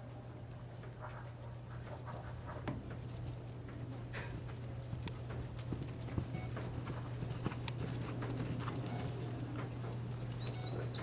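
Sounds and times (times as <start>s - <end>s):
steady low hum: 0.0s - 11.0s
horse hoofbeats: 0.6s - 11.0s.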